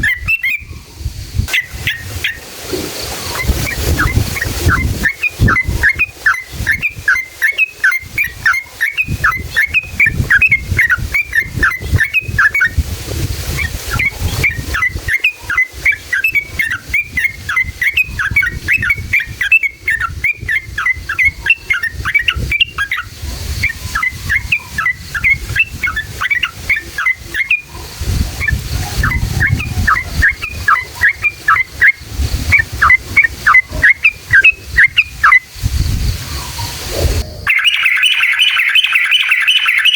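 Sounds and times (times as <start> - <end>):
bird chattering song: 0.0 - 0.8, 1.5 - 2.4, 3.2 - 12.8, 13.6 - 39.9.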